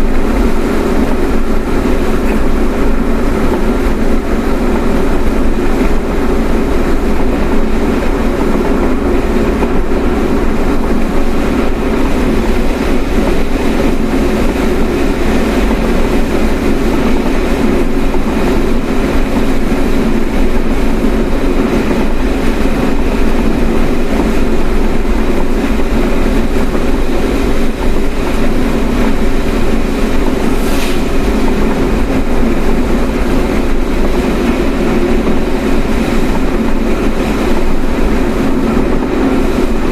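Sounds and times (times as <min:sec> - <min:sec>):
road and engine noise inside car: 0:00.0 - 0:39.9.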